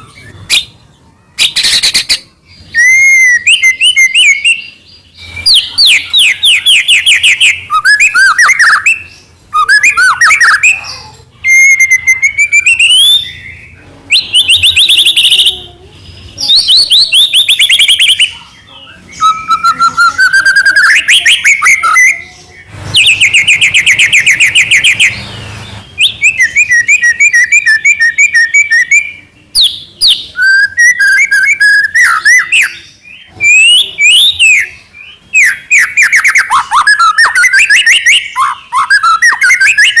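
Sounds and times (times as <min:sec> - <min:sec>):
bird singing whistled trills: 0:01.4 - 0:15.7, 0:16.3 - 0:40.0.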